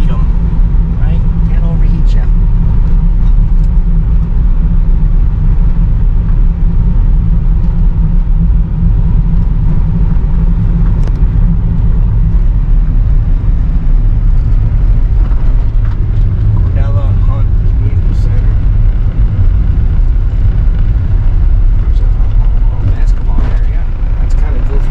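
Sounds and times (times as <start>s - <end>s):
van engine and road rumble: 0.0s - 24.9s.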